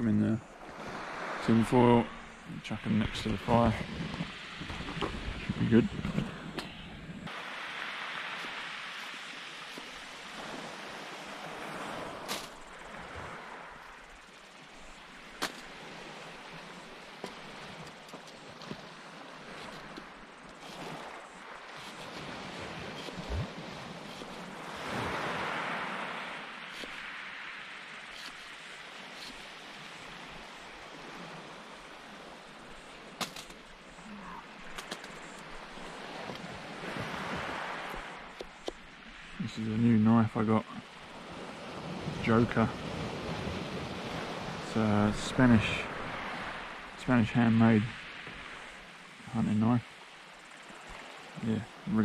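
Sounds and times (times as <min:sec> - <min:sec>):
surf and wind on shingle: 0:00.0 - 0:52.0
waves breaking on shore: 0:00.0 - 0:52.0.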